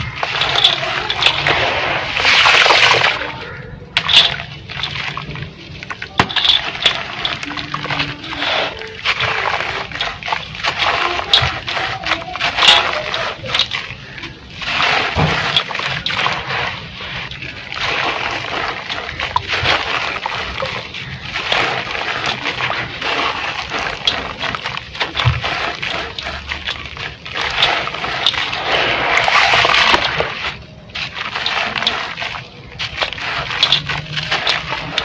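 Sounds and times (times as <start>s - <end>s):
dirt crumbling in water: 0.0s - 35.0s.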